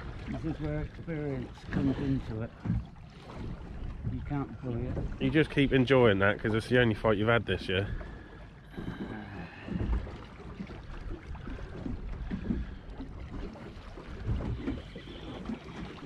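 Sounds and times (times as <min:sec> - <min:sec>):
water slapping against hull: 0:00.0 - 0:16.0.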